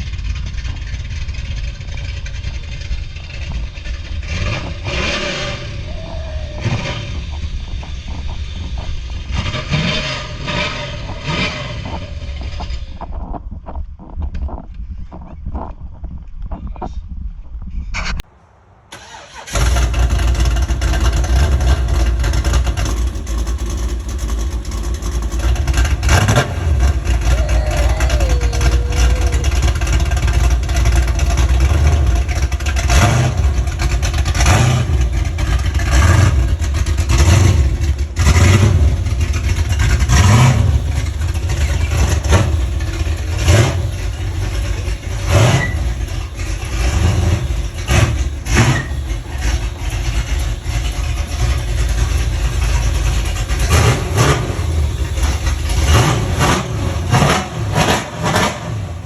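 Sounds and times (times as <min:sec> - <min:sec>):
car engine revving: 0:00.0 - 0:13.4, 0:19.0 - 0:59.0.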